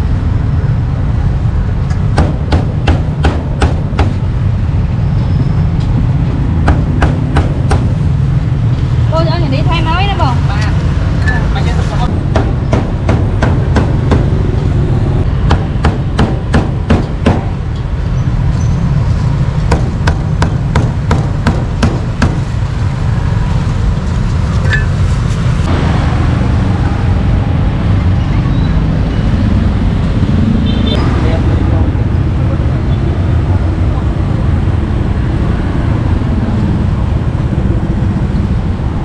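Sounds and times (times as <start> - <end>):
low rumble of street traffic: 0.0 - 39.0.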